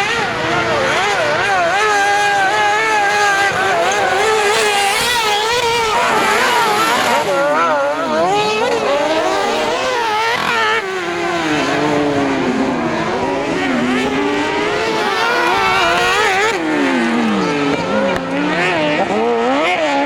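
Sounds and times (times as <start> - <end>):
racing buggy engines revving: 0.0 - 20.0.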